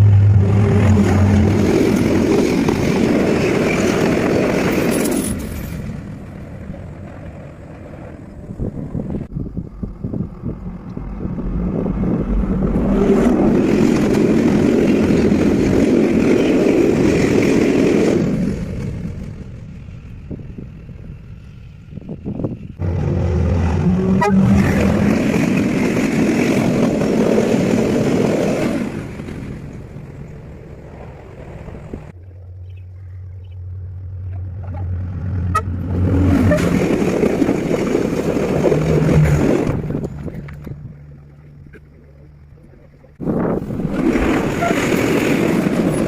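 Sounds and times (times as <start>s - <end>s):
trains passing at speed: 0.0s - 32.8s, 33.5s - 42.5s, 43.1s - 46.0s.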